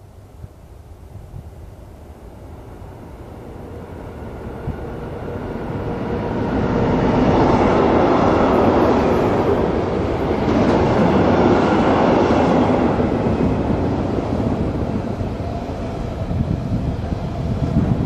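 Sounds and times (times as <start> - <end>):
freight train wheels rumbling on rail: 1.3 - 18.0.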